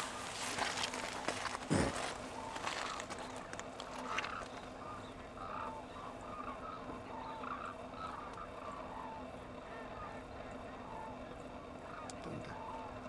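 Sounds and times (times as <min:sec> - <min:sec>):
cranes calling: 0:00.0 - 0:13.0
faint low hum: 0:00.0 - 0:13.0.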